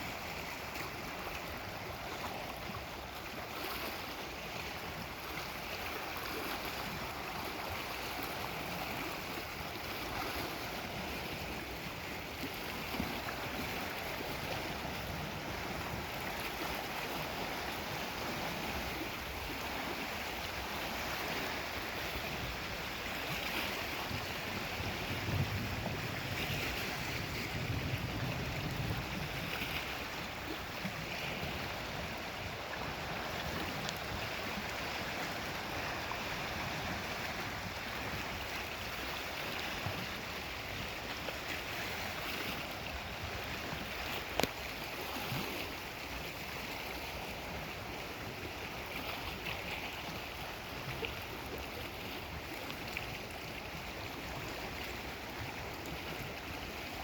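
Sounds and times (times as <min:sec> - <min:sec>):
waves washing on shore: 0:00.0 - 0:57.0.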